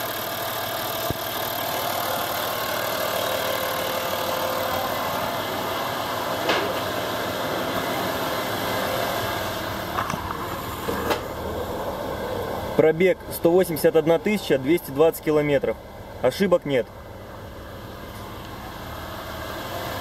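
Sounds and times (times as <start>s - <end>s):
diesel engine running at raised revs: 0.0s - 20.0s.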